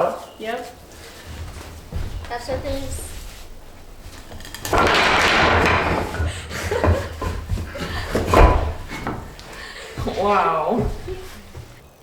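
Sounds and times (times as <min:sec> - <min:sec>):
chair scraping on floor: 0:00.2 - 0:12.0
heavy thud: 0:00.8 - 0:11.8
wooden knocks: 0:00.8 - 0:12.0.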